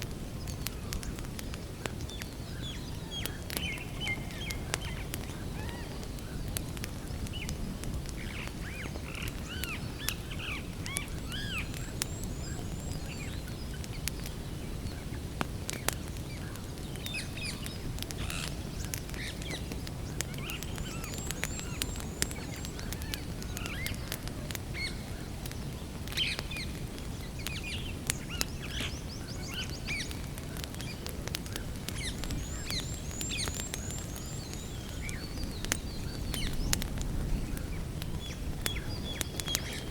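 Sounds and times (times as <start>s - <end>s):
campfire crackling and popping: 0.0s - 39.9s
songbirds chirping: 0.2s - 39.9s.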